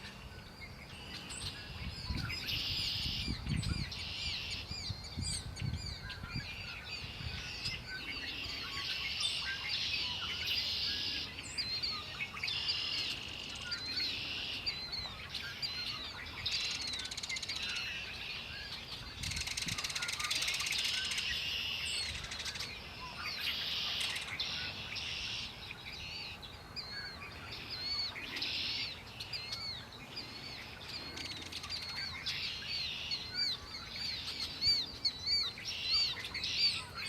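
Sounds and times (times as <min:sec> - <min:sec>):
chorus of songbirds: 0:00.0 - 0:37.0.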